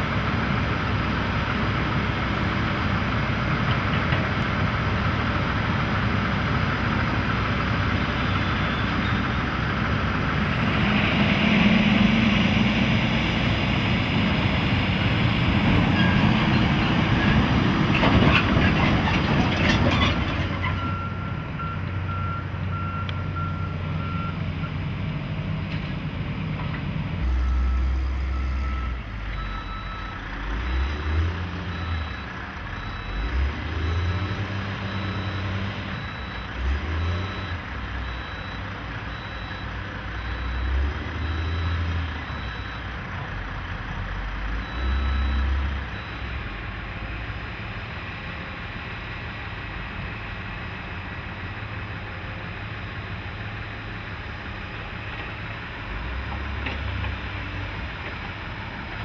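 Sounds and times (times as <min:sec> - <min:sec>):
heavy machine engines surging: 0:00.0 - 0:59.0.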